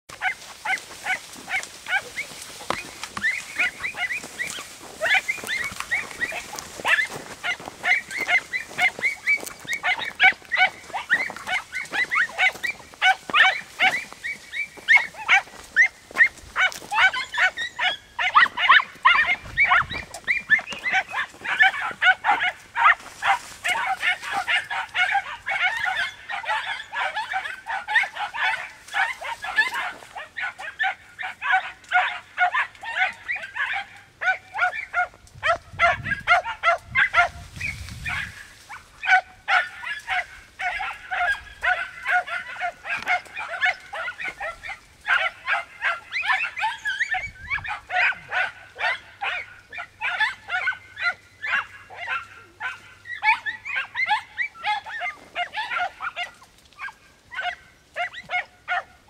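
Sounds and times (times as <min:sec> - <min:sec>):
hounds yelping: 0:00.1 - 0:59.0.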